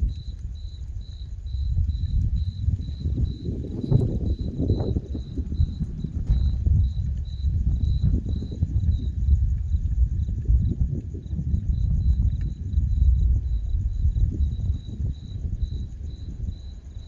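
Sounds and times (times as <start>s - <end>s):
crickets chirping: 0.0s - 17.0s
gusty wind buffeting microphone: 0.0s - 17.0s.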